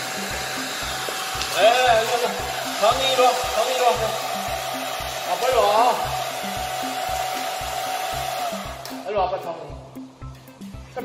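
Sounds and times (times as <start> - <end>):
hair dryer blowing: 0.0 - 9.4
music with steady beat: 0.0 - 11.0.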